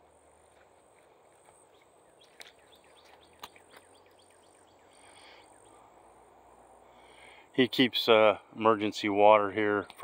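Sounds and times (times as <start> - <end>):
faint bird song: 0.0 - 10.0.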